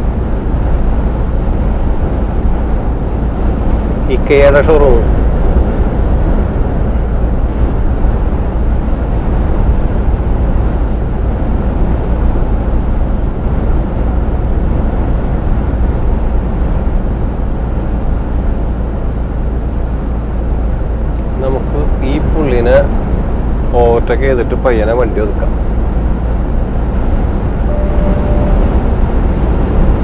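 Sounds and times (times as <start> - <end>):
lorry cab engine and road rumble: 0.0 - 30.0.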